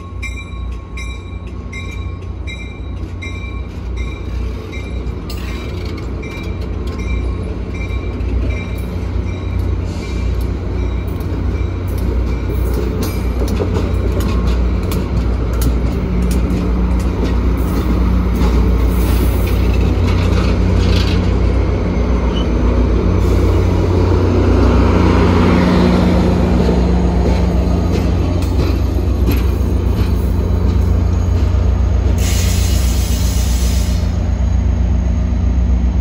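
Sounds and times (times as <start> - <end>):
diesel locomotive engine hum: 0.0 - 36.0
train cars rumbling past: 0.0 - 36.0.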